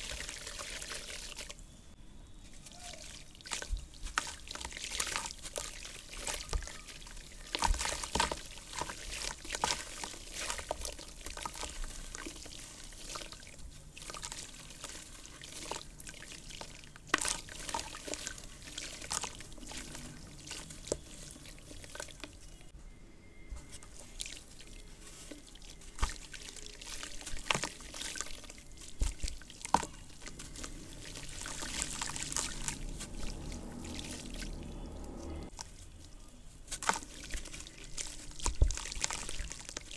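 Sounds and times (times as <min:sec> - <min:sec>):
pouring and dripping water: 0:00.0 - 0:01.6, 0:02.6 - 0:22.8, 0:23.7 - 0:39.9
wet dirt crumbling: 0:00.0 - 0:01.6, 0:02.5 - 0:22.8, 0:23.6 - 0:39.9.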